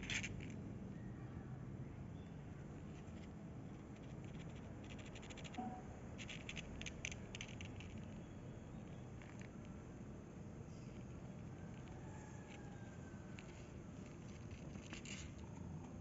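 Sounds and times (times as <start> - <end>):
low steady hum: 0.0 - 16.0
faint scratching and clicking: 2.7 - 16.0.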